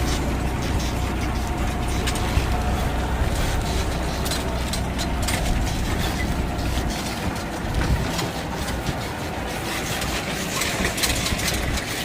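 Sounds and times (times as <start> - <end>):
tractor engine rumble: 0.0 - 12.0
wagon rattling and clattering: 0.0 - 12.0.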